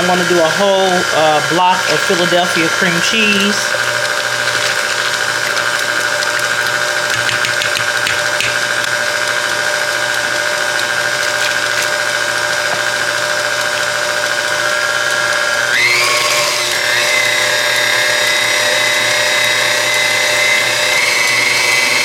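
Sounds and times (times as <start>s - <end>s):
electric mixer motor whine: 0.0s - 22.0s.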